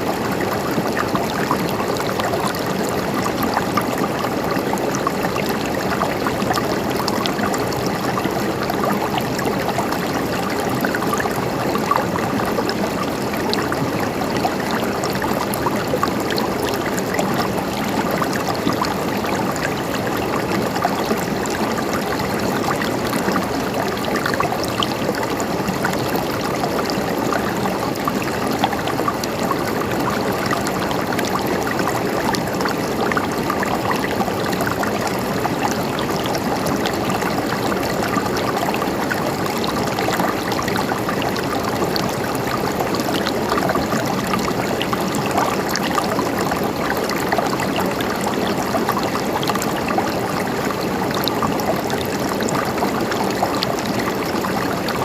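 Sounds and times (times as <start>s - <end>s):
water flowing and gurgling: 0.0s - 55.0s.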